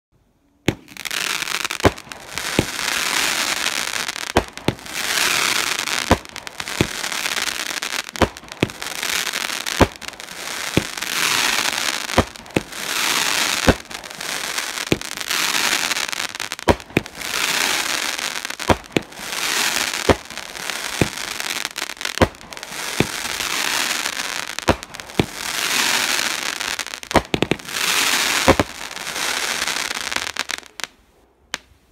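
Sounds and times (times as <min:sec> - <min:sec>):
firework shots popping: 0:00.7 - 0:30.6
firework stars crackling: 0:00.7 - 0:31.0.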